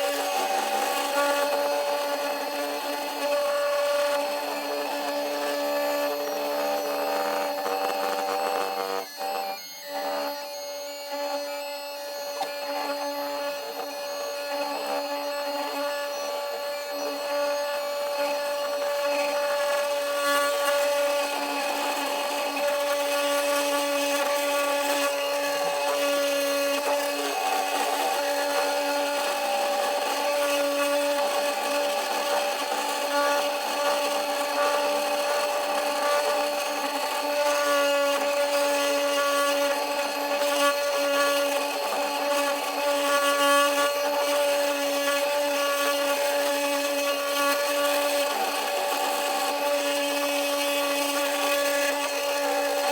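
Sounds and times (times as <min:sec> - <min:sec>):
end mill cutting metal: 0:00.0 - 0:52.9
router spindle whining: 0:00.0 - 0:52.9.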